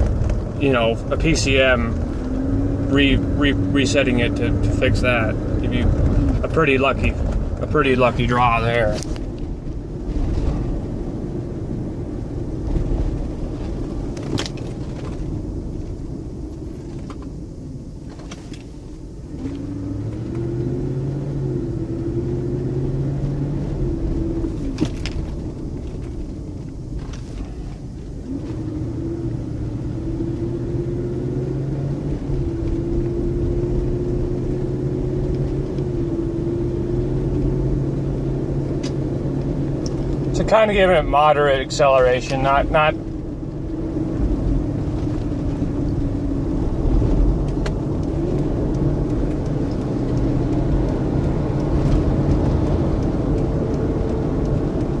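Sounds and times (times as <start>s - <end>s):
car engine rumbling while driving: 0.0s - 55.0s.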